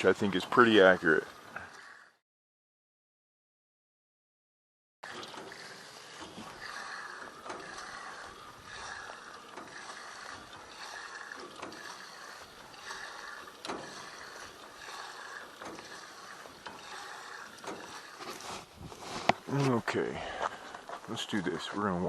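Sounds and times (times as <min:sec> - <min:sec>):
hand fuel pump strokes: 0:00.0 - 0:02.2, 0:05.0 - 0:22.0.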